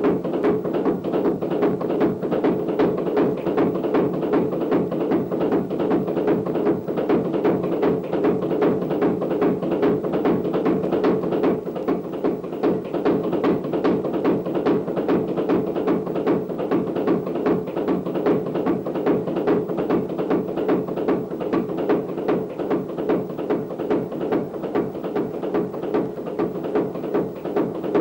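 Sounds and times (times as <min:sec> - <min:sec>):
soundtrack music with tapping beat: 0:00.0 - 0:28.0.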